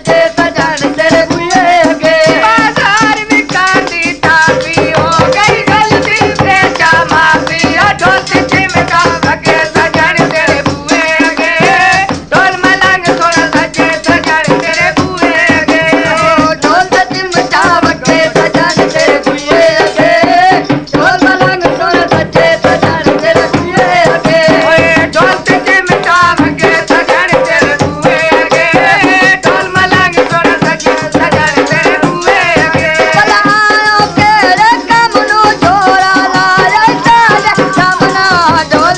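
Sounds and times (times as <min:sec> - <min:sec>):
chimta jingling: 0:00.0 - 0:38.9
fast dhol drumming: 0:00.0 - 0:38.9
folk song singing: 0:00.0 - 0:38.9.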